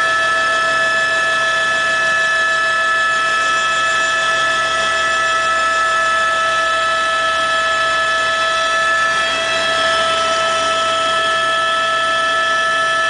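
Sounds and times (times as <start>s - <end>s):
helicopter engine whine: 0.0s - 13.0s.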